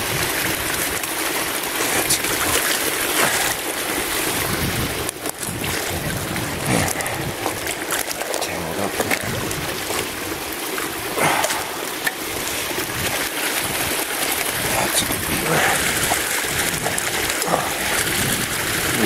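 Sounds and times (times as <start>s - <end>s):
icy water splashing: 0.0s - 19.0s.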